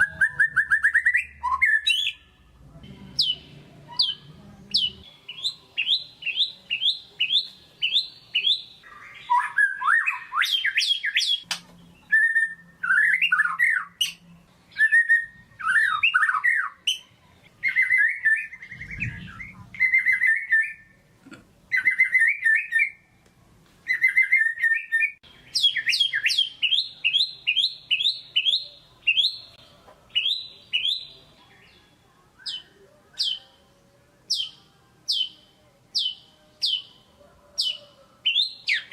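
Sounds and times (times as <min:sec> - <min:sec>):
songbird singing varied song: 0:03.2 - 0:21.0, 0:23.8 - 0:38.9.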